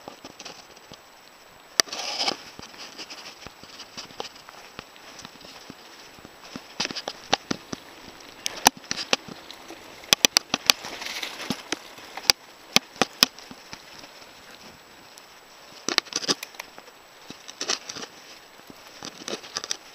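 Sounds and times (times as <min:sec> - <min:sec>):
tyres hissing on soil: 0:00.0 - 0:19.9
mountain bike rattling and clicking: 0:01.8 - 0:19.9.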